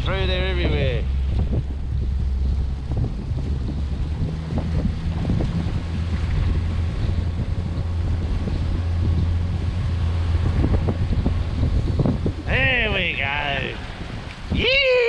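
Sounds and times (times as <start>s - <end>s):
outboard motor droning: 0.0s - 15.0s
wind buffeting microphone: 0.0s - 15.0s.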